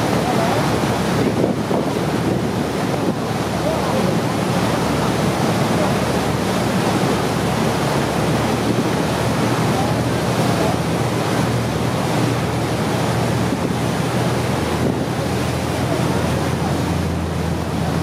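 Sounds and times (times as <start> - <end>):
low steady engine hum: 0.0 - 18.0
sea water slapping boat: 0.0 - 18.0
wind buffeting microphone: 0.0 - 18.0.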